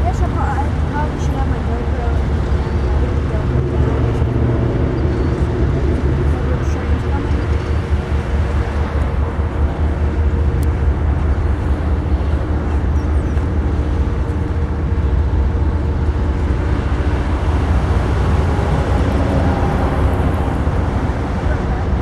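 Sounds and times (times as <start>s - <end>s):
diesel locomotive engine drone: 0.0s - 22.0s
freight train rumble: 0.0s - 22.0s.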